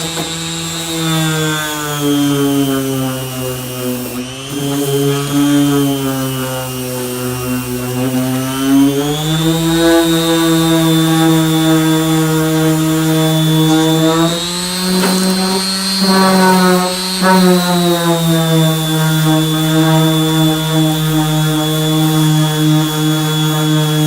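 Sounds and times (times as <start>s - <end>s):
electric sander motor whine: 0.0s - 24.0s.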